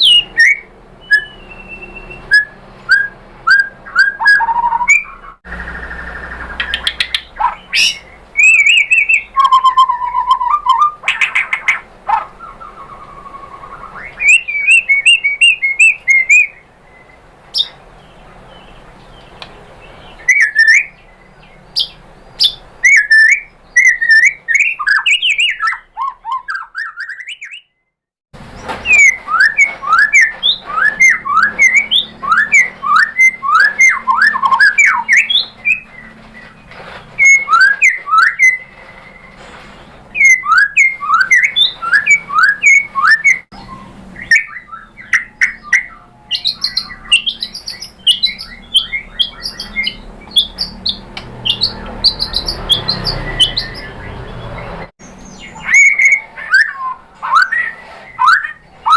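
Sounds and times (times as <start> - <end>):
bird singing whistled notes: 0.0 - 27.8, 28.8 - 58.9.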